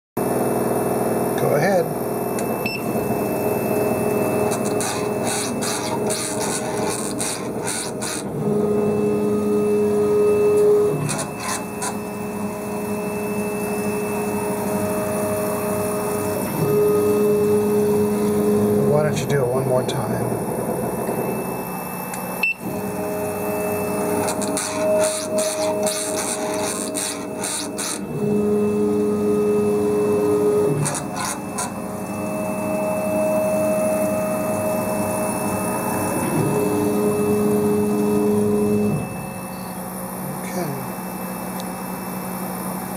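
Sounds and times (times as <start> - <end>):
gantry motor two-tone hum: 0.3 - 42.9.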